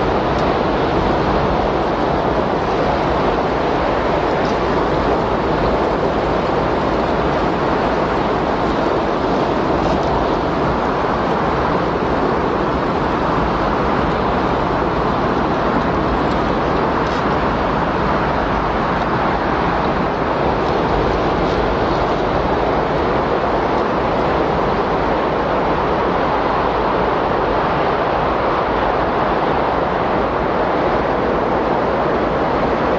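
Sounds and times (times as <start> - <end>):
steady rush of wind: 0.0 - 32.9.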